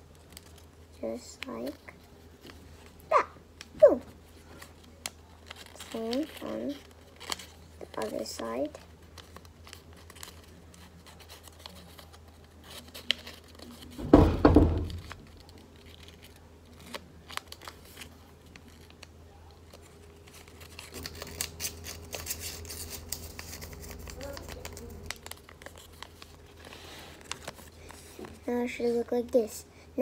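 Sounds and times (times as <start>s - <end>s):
paper rustling and crinkling: 0.0s - 29.6s.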